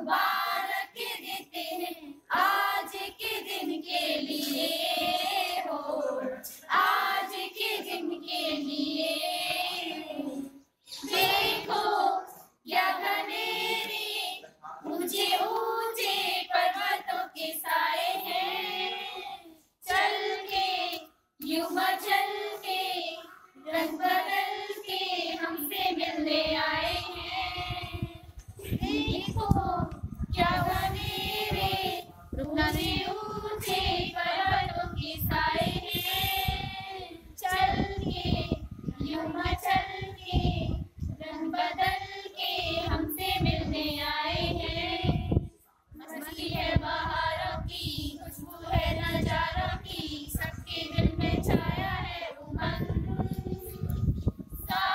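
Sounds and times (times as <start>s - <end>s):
voices singing together: 0.0s - 54.9s.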